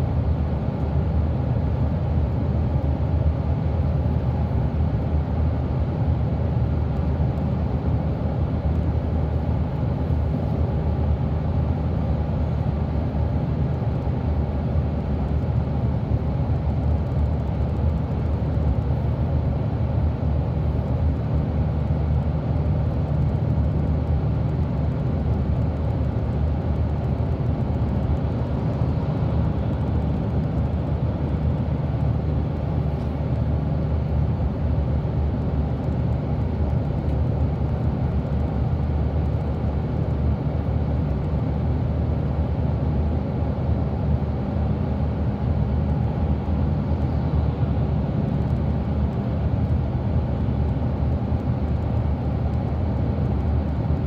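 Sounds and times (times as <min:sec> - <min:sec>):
bus engine rumble from inside: 0:00.0 - 0:54.0.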